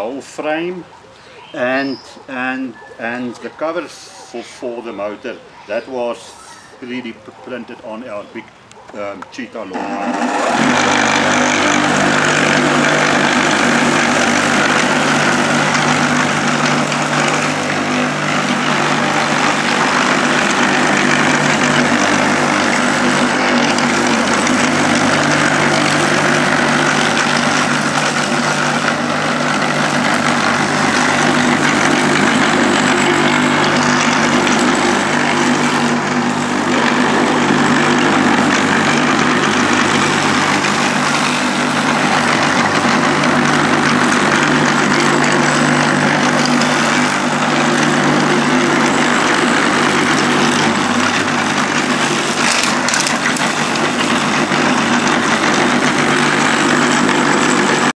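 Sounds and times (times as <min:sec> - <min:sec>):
electric lawnmower humming: 0:09.6 - 0:57.9.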